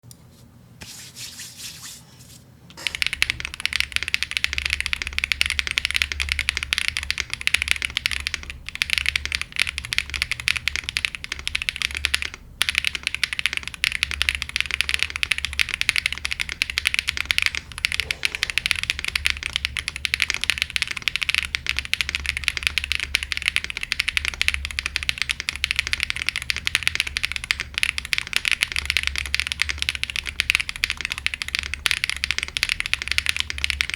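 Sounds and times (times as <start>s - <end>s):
fast typing on mechanical keyboard: 2.8s - 33.9s.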